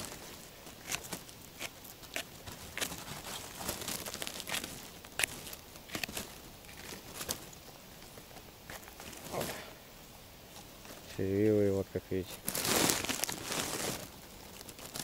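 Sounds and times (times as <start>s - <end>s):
small crackles and clicks: 0.0s - 9.4s, 12.3s - 15.0s
grass rustling: 0.0s - 15.0s.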